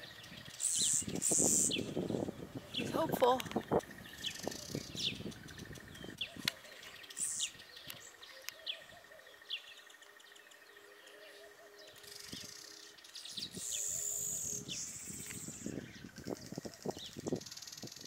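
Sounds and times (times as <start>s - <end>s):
weaver birds chirping: 0.0s - 18.0s.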